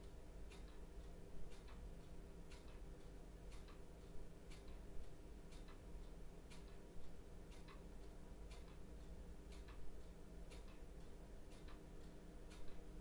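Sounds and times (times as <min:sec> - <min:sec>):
clock ticking: 0:00.0 - 0:13.0
low room hum: 0:00.0 - 0:13.0.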